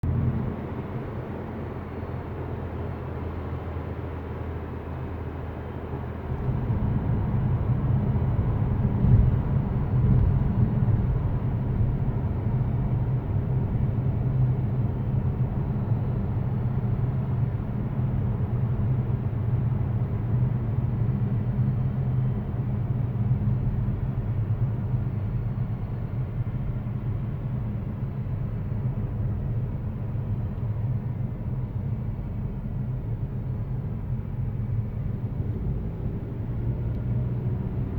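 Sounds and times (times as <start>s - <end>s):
car engine buzzing hum: 0.0s - 37.9s.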